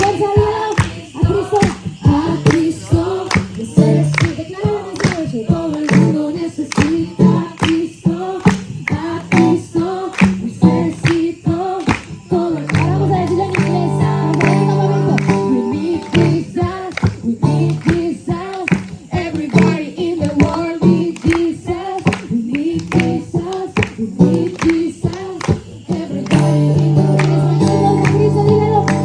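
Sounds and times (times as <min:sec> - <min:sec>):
group singing: 0:00.0 - 0:29.0.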